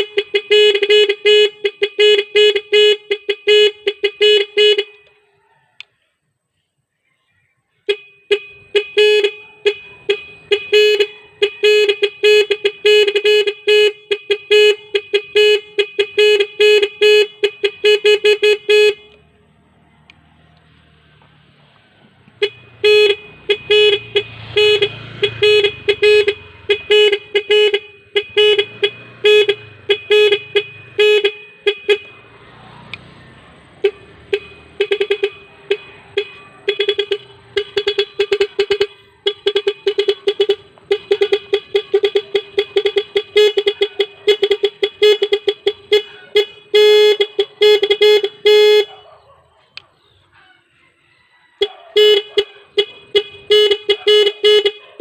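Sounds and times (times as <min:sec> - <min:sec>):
electric horn honking: 0:00.0 - 0:05.1, 0:07.9 - 0:19.3, 0:22.3 - 0:49.0, 0:52.0 - 0:54.8.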